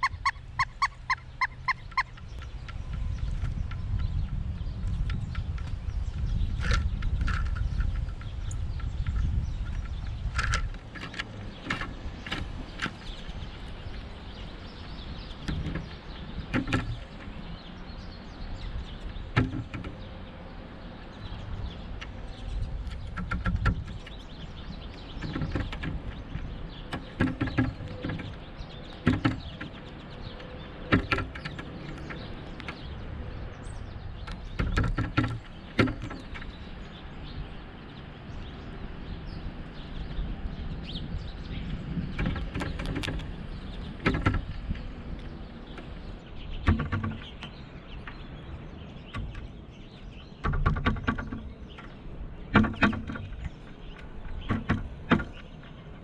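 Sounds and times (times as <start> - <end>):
woodpecker pecking: 0.0 - 20.1, 20.7 - 37.4, 41.6 - 55.9.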